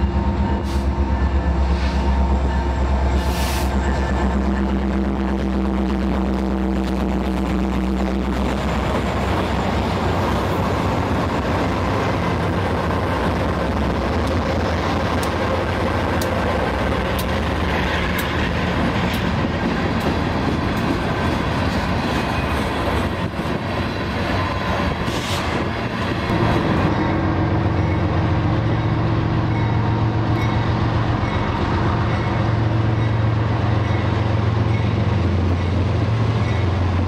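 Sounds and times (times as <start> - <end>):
diesel freight train passing: 0.0 - 37.0.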